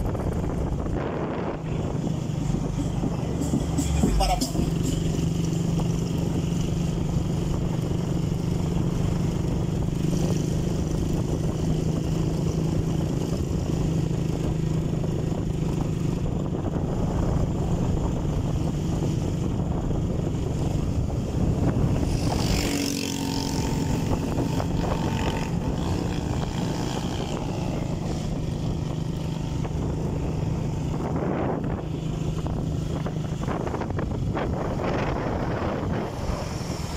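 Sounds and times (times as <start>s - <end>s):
motorcycle engine running: 0.0s - 36.9s
wind rushing over microphone: 0.0s - 36.9s.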